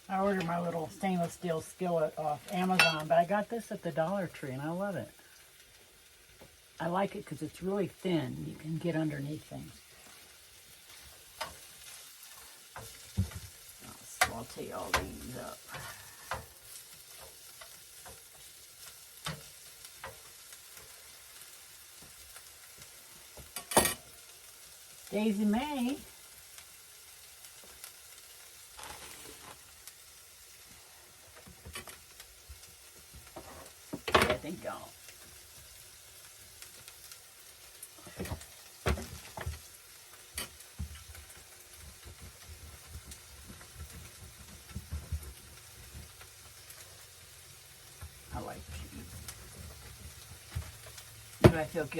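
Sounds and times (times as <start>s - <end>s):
vegetables sizzling in a frying pan: 0.0s - 51.9s.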